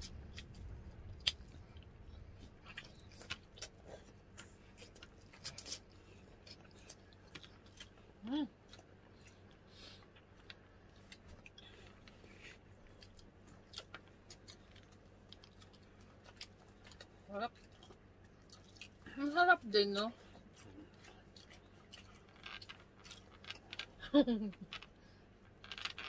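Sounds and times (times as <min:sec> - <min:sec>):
wet chewing and mouth smacks: 0:00.0 - 0:19.1, 0:20.0 - 0:24.0.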